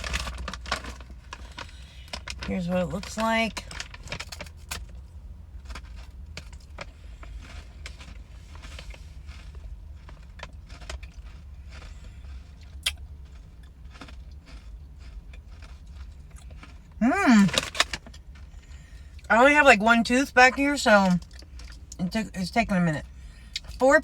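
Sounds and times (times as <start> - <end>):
crunchy food being chewed: 0.0 - 19.3, 21.1 - 22.0
steady low hum: 0.0 - 24.0.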